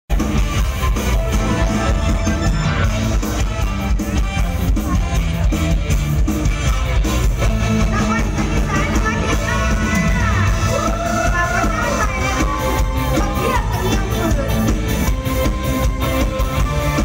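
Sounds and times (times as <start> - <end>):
bending lead melody: 0.1 - 17.0
live band with driving beat: 0.1 - 17.0.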